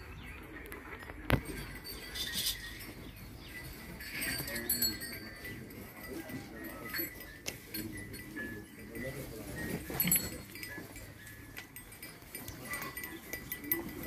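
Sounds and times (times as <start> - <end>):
cows moving clinks and knocks: 0.0 - 14.0.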